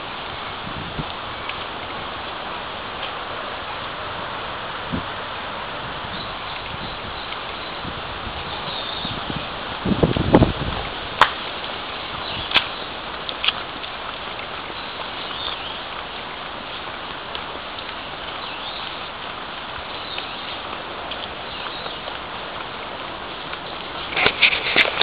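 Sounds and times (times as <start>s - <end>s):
water running in a channel: 0.0s - 25.0s.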